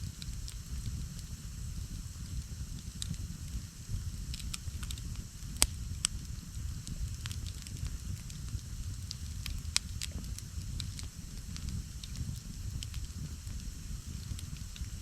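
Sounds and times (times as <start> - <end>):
campfire pops and snaps: 0.1 - 1.4, 2.2 - 15.0.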